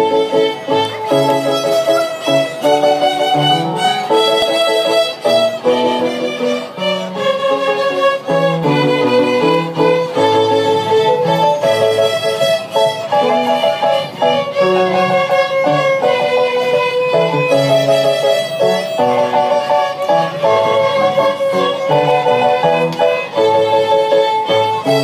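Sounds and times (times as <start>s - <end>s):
cello playing low notes: 0.0s - 25.0s
violins playing in unison: 0.0s - 25.0s.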